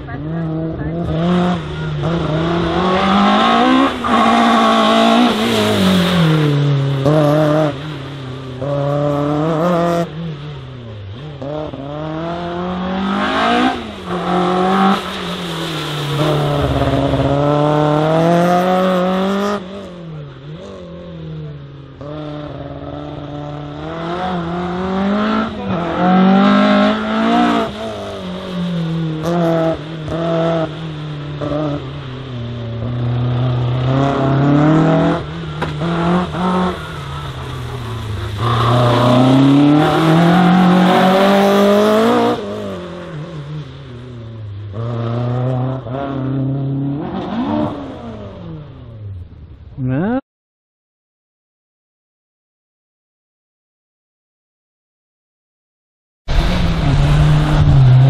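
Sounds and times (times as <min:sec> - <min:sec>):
race car engine revving: 0:00.0 - 0:49.1, 0:56.3 - 0:58.0.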